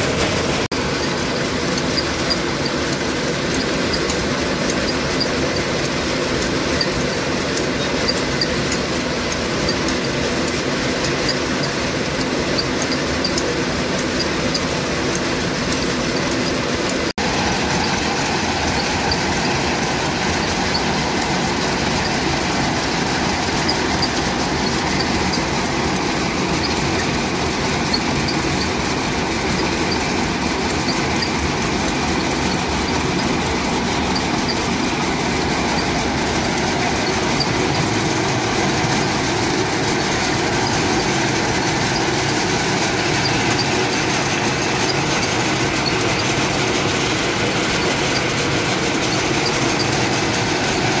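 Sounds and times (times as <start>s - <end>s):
flywheel engine running: 0.0s - 51.0s
peanut sheller running: 0.0s - 51.0s.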